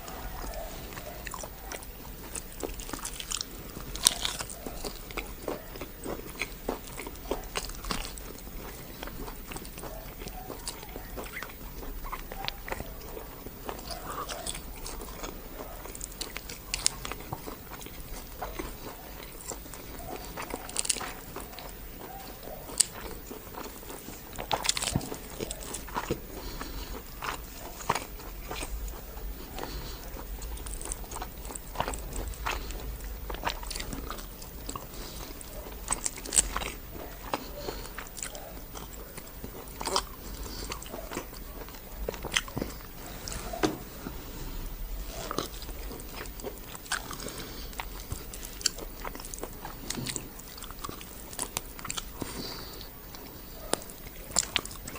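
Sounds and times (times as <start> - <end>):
person chewing and biting food: 0.0 - 54.9
wet mouth noises: 0.0 - 54.9.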